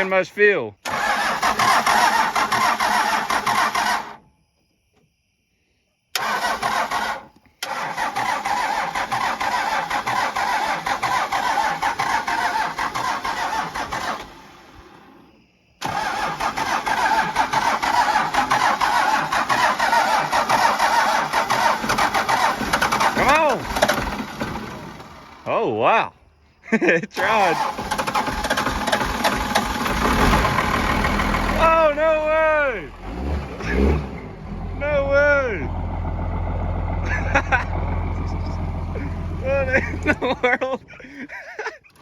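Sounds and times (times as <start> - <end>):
diesel engine starter cranking: 0.8 - 4.3, 6.1 - 25.5, 27.2 - 42.0.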